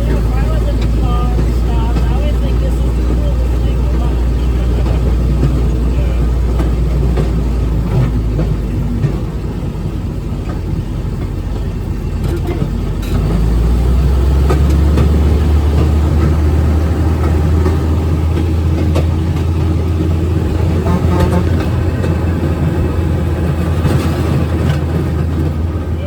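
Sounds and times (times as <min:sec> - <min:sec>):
railroad speeder rumbling: 0:00.0 - 0:26.0.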